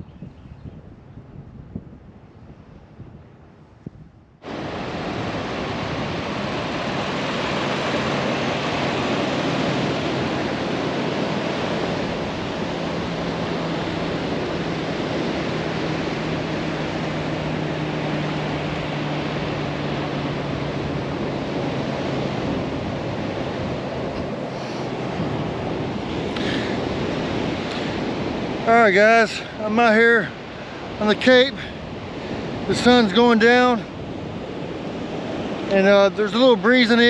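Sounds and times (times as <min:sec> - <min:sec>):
wind: 0:00.0 - 0:37.0
surf rushing: 0:04.4 - 0:37.0.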